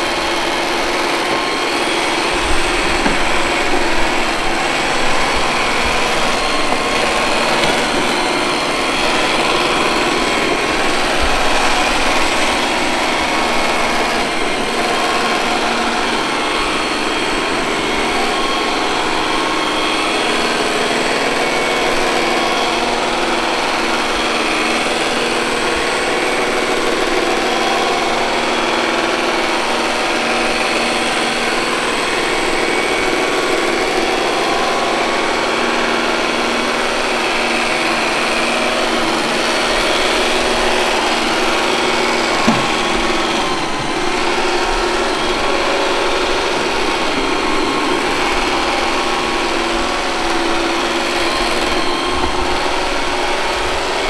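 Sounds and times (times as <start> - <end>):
robot vacuum cleaner whirring: 0.0 - 54.0.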